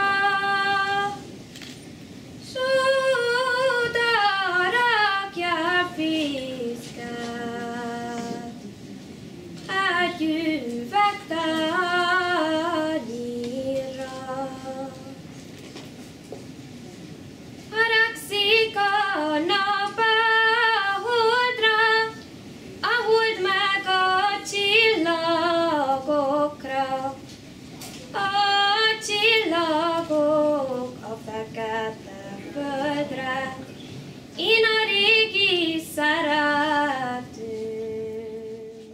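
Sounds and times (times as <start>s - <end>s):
woman singing: 0.0s - 1.3s, 2.4s - 8.6s, 9.6s - 15.3s, 17.7s - 27.3s, 28.1s - 33.8s, 34.4s - 38.9s.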